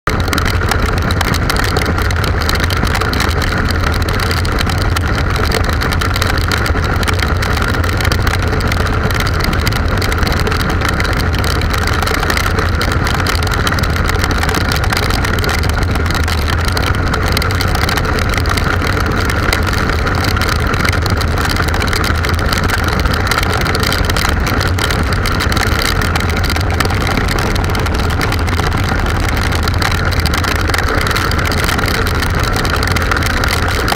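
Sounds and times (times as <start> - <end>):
motorcycle engine drone: 0.0 - 33.9.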